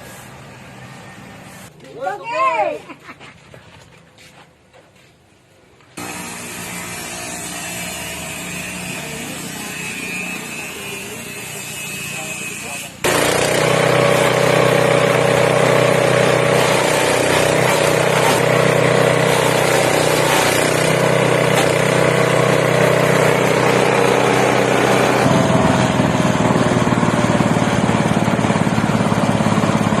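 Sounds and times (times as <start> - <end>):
small chopper machine engine running: 6.0 - 30.0.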